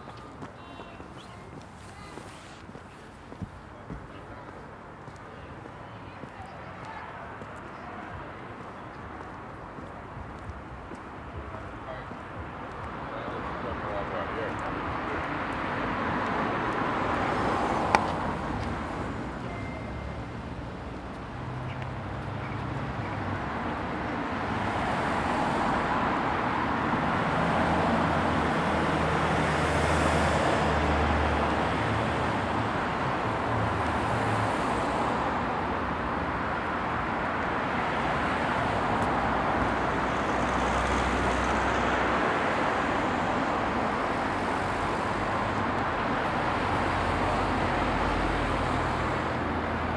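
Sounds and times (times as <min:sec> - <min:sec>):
background traffic hum: 0:00.0 - 0:49.9
cars passing: 0:00.0 - 0:49.9.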